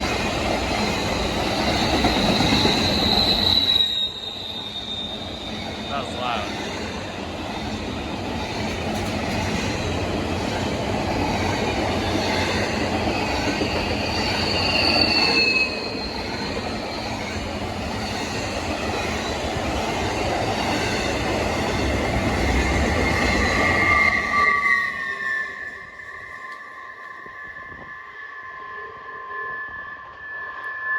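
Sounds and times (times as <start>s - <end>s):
freight train rumbling on rails: 0.0s - 28.2s
train wheels screeching: 0.0s - 30.9s.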